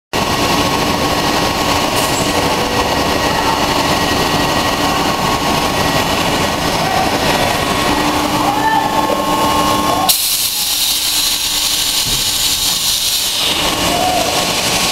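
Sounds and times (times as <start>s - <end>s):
held whine: 0.2s - 14.9s
industrial machinery rumble: 0.2s - 14.9s.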